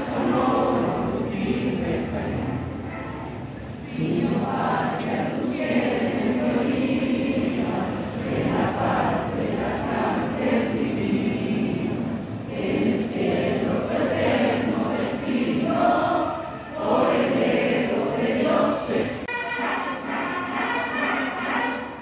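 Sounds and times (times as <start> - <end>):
children singing in unison: 0.0 - 2.6, 3.8 - 19.3.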